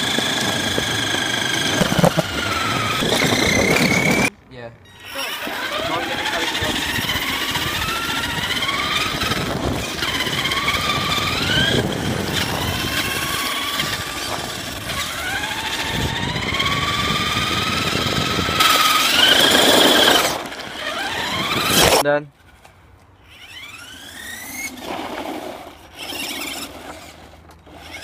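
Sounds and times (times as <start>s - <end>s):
toy truck motor whining: 0.0s - 28.0s
tyres on tarmac: 0.0s - 28.0s.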